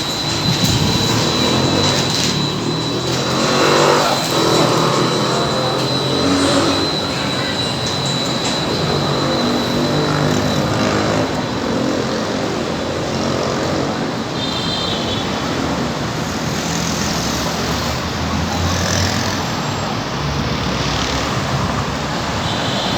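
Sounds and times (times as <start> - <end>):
vehicle engines passing: 0.0 - 14.4, 15.2 - 22.6.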